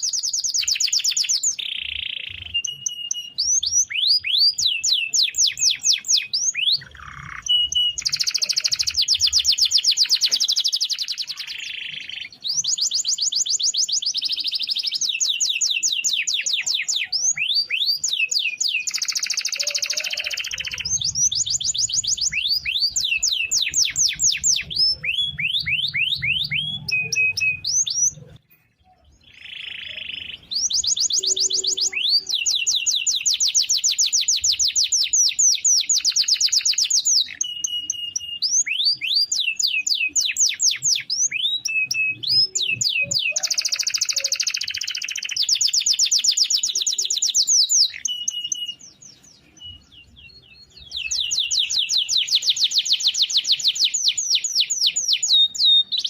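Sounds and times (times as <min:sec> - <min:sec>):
canary singing rolling trills: 0:00.0 - 0:56.0.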